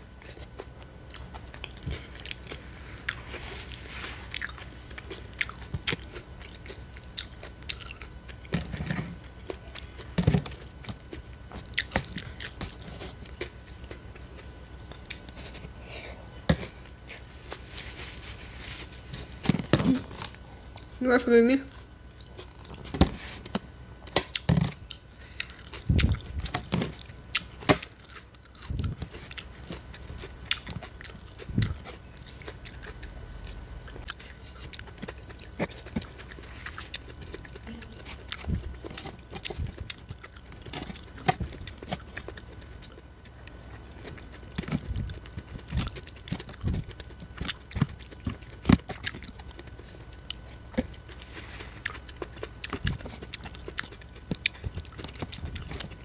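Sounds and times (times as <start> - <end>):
close-up chewing salad: 0.0 - 56.0.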